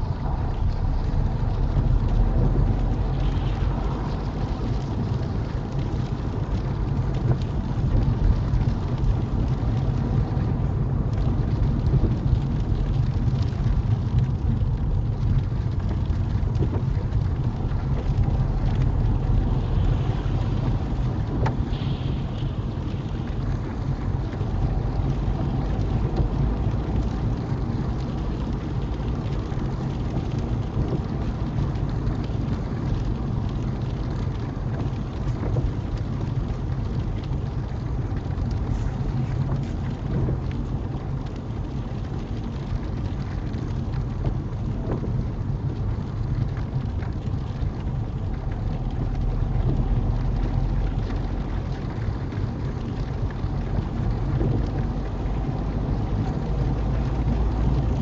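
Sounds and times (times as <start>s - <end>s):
car road and engine rumble: 0.0s - 58.0s
rain hitting windscreen: 0.0s - 58.0s.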